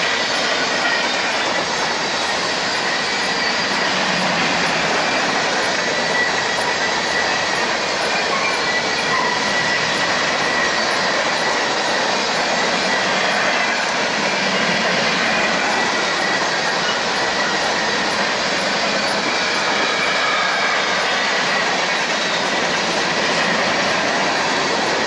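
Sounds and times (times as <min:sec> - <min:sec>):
high wheel squeal: 0:00.0 - 0:25.0
train wheels rolling on rails: 0:00.0 - 0:25.0.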